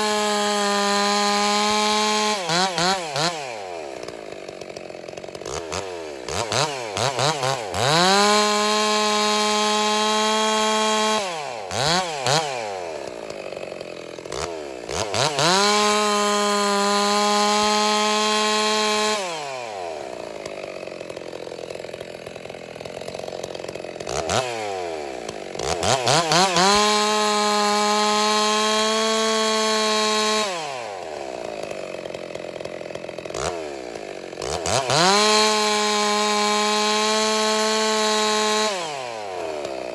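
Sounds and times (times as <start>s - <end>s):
chainsaw cutting at full throttle: 0.0s - 39.9s.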